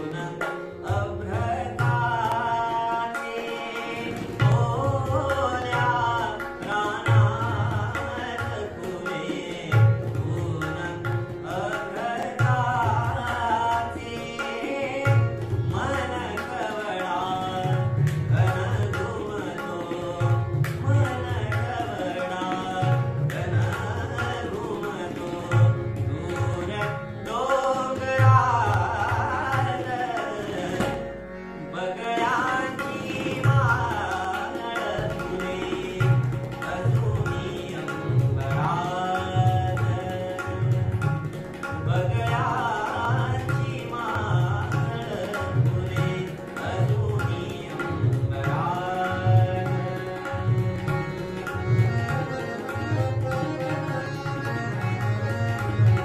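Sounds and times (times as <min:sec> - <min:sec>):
harmonium chords: 0:00.0 - 0:56.0
tabla rhythm: 0:00.0 - 0:56.0
young man singing: 0:00.0 - 0:56.0.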